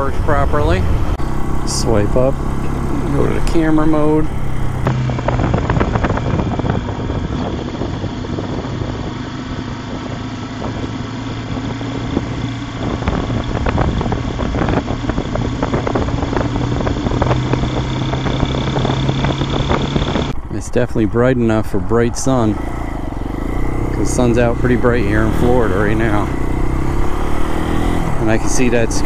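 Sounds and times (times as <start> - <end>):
motorcycle engine running: 0.0 - 29.0
road and wind noise: 0.0 - 29.0.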